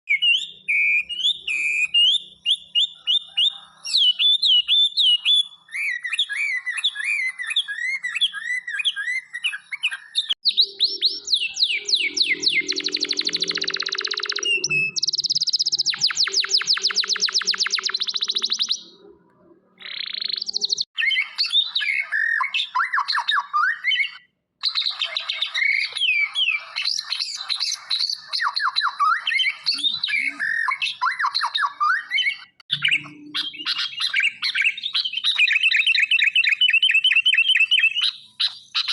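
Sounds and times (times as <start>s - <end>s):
songbird singing: 0.1s - 38.9s.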